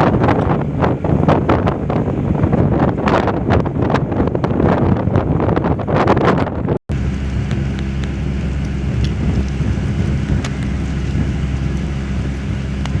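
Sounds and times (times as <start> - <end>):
vehicle engine hum: 0.0 - 13.0
wind buffeting microphone: 0.0 - 13.0.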